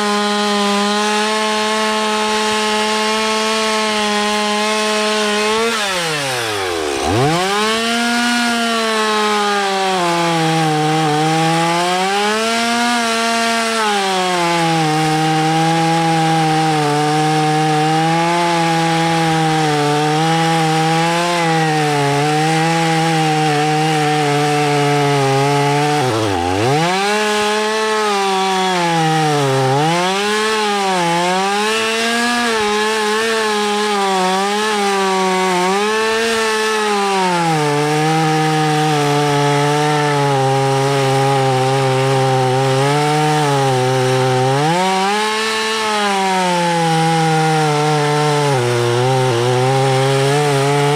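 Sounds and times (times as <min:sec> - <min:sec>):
chainsaw cutting into tree: 0:00.0 - 0:50.9.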